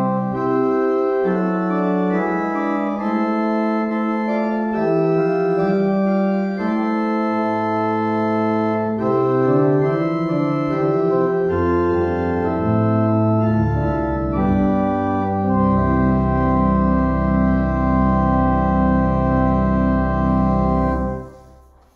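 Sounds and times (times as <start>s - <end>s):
pipe organ chords: 0.0s - 21.9s.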